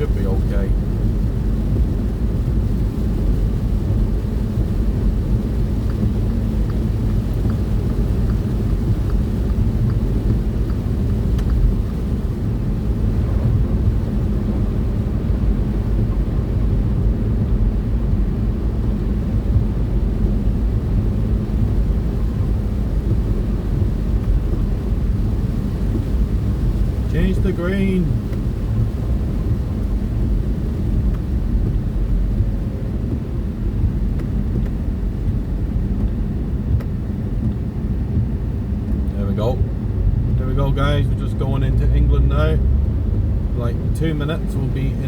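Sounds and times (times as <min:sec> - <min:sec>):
truck engine and tyres rumble: 0:00.0 - 0:45.0.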